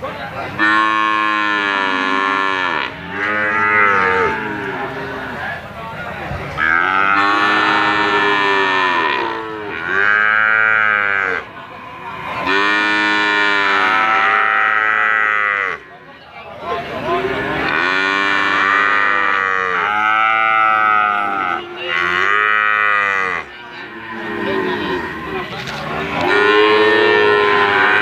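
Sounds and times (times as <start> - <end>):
cattle mooing: 0.6 - 5.4, 6.6 - 15.9, 17.1 - 28.0.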